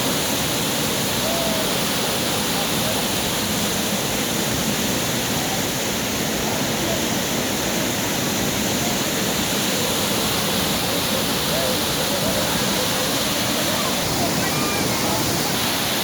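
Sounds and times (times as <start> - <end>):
floodwater rushing loudly: 0.0 - 16.0
faint distant voices: 0.9 - 16.0.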